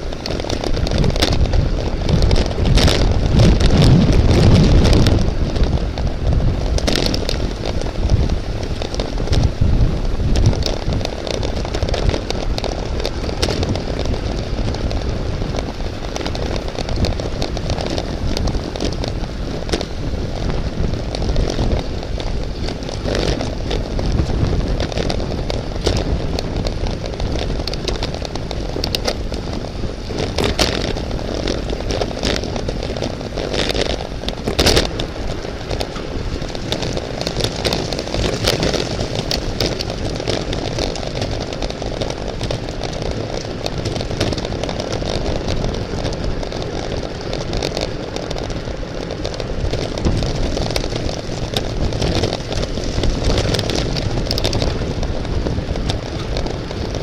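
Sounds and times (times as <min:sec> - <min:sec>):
bicycle clicks and rattles: 0:00.0 - 0:57.0
bicycle road rumble: 0:00.0 - 0:57.0
wind on microphone: 0:00.0 - 0:57.0.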